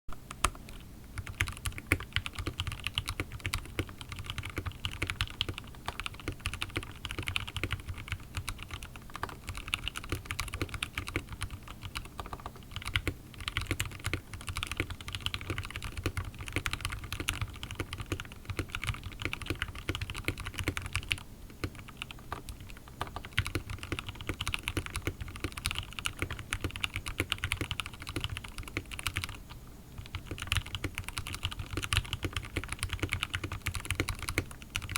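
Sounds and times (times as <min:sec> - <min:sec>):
mechanical keyboard typing: 0:00.3 - 0:34.9.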